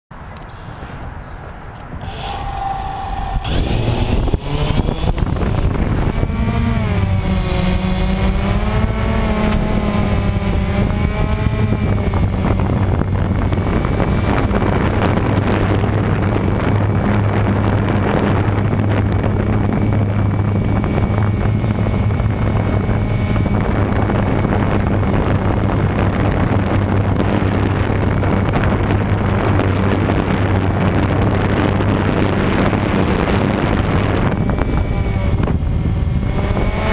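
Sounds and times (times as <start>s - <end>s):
drone propellers buzzing: 2.0s - 36.9s.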